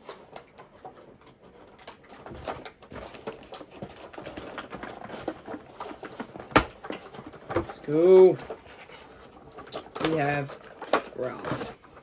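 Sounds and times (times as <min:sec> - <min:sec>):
toy packaging being handled: 0:00.0 - 0:12.0.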